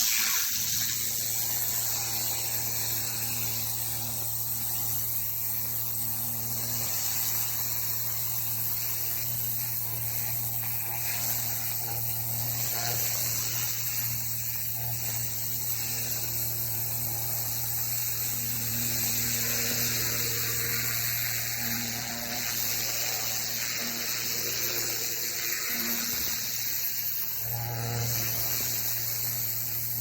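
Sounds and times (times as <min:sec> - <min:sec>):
high-pressure water jet hissing: 0:00.0 - 0:30.0
pressure washer motor hum: 0:00.0 - 0:30.0.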